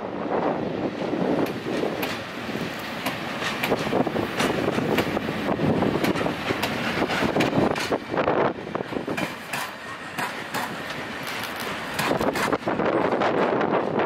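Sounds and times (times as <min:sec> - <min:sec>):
train wheels rumbling on rail: 0:00.0 - 0:14.0
wheels clacking over rail joints: 0:01.0 - 0:14.0.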